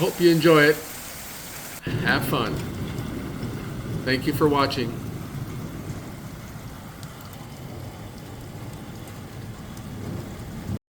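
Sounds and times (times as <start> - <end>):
rain falling: 0.0 - 10.8
raindrop ticks: 1.8 - 10.8.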